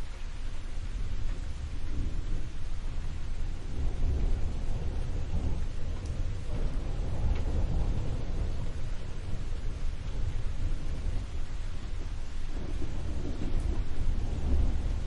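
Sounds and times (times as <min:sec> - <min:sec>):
low rumble of thunder: 0:00.0 - 0:15.0
rain hissing: 0:00.0 - 0:15.0.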